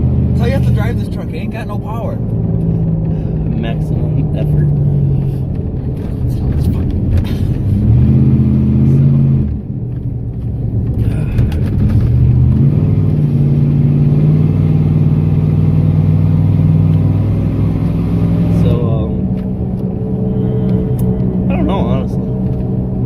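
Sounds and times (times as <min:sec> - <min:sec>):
truck engine at full throttle: 0:00.0 - 0:23.0.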